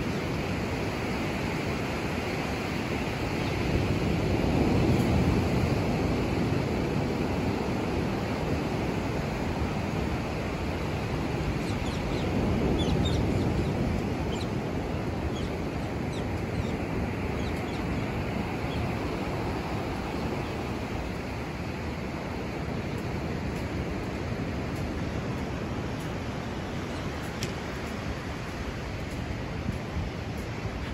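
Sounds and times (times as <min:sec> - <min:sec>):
surf on sand: 0:00.0 - 0:30.9
wind on microphone: 0:00.0 - 0:30.9.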